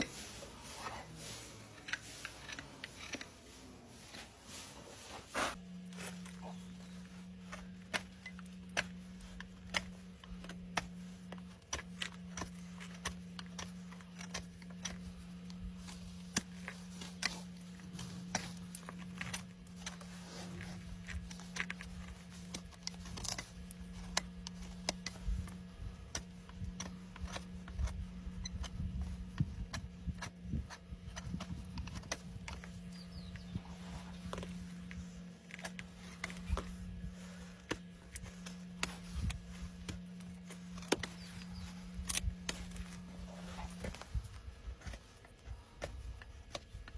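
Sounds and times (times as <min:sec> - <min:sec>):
low hum: 0:00.0 - 0:46.9
tool scraping hoof: 0:00.0 - 0:46.9
hand tool clicking on hoof: 0:06.2 - 0:46.9.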